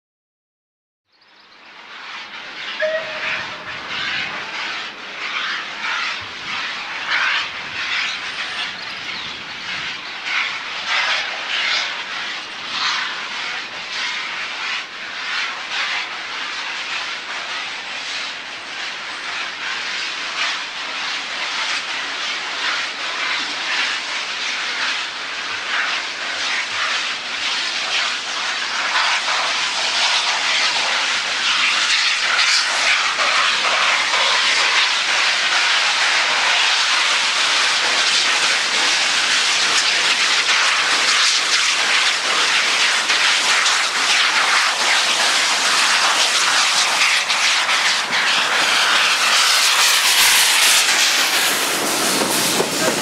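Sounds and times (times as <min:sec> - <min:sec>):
steam locomotive chuffing: 0:01.6 - 0:53.0.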